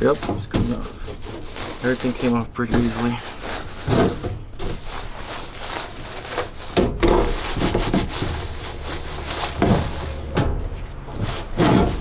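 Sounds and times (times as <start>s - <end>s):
towel rubbing on board: 0.0s - 12.0s.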